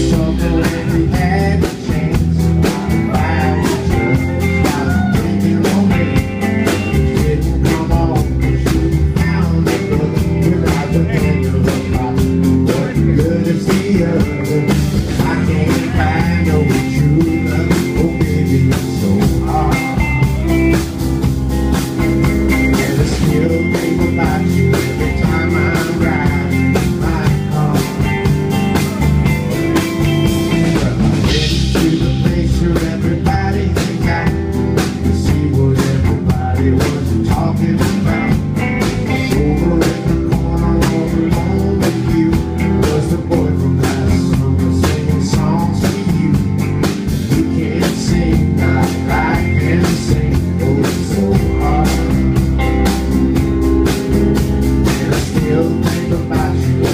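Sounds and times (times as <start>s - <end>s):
man singing: 0.0s - 21.1s, 22.0s - 56.9s
drum kit: 0.0s - 56.9s.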